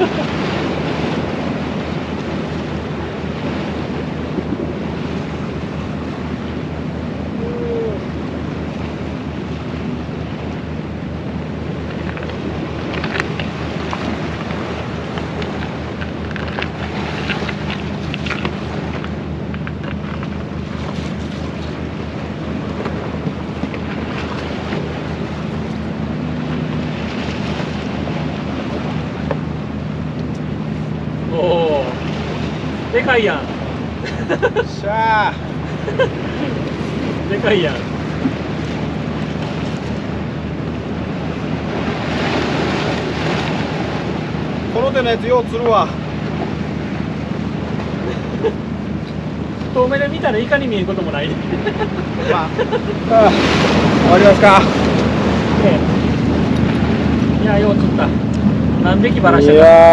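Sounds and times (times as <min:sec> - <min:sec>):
surf washing on rocky shore: 0:00.0 - 0:59.9
wind buffeting microphone: 0:00.0 - 0:59.9
low steady drone: 0:00.1 - 0:59.9.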